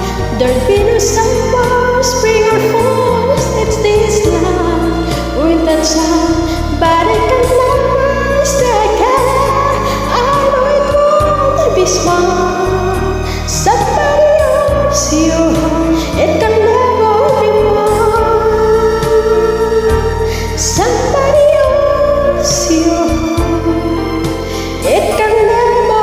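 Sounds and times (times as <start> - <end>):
karaoke backing track: 0.0 - 26.0.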